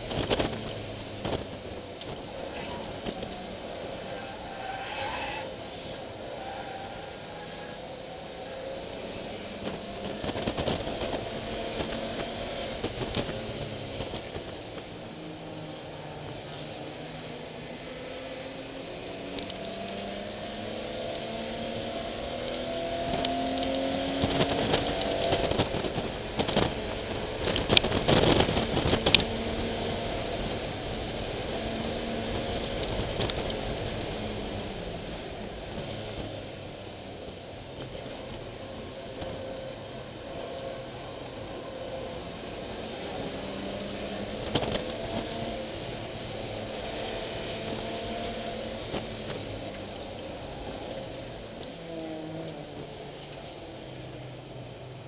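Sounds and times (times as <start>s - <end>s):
car engine revving: 0.0s - 54.8s.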